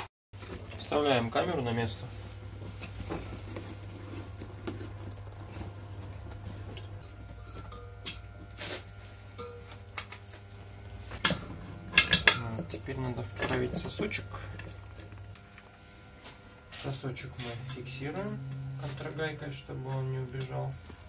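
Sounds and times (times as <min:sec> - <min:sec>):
steady low hum: 0:00.4 - 0:21.0.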